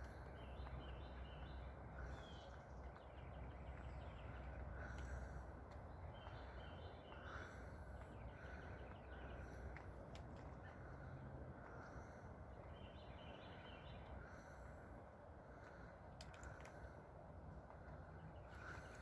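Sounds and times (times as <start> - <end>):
low background rumble: 0.0 - 19.0
songbirds calling: 0.0 - 19.0.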